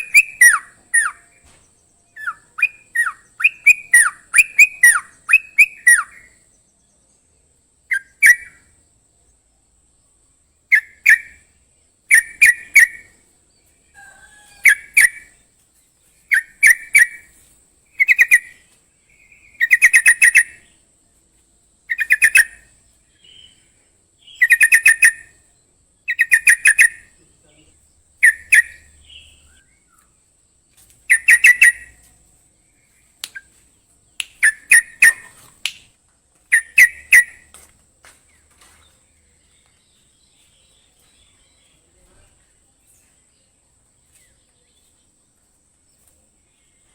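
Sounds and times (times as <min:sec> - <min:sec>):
songbird chattering song: 0:00.0 - 0:46.9.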